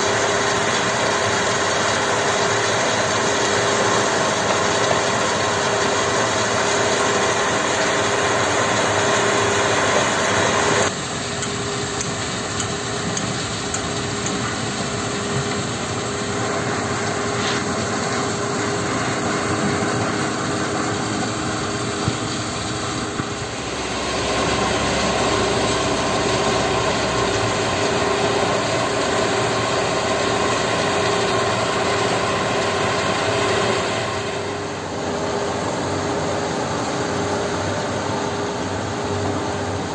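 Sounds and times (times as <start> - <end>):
stone crusher running: 0.0 - 35.3
constant hum: 0.0 - 39.9
diesel excavator running: 0.0 - 39.9.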